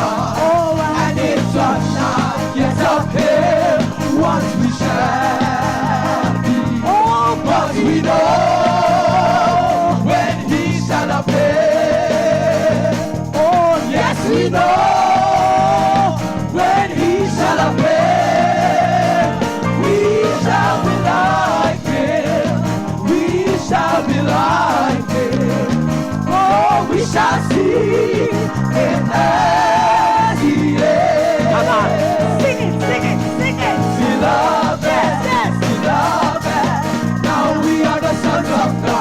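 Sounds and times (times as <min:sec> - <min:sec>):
instrumental accompaniment: 0:00.0 - 0:39.0
person singing with vibrato: 0:00.0 - 0:39.0.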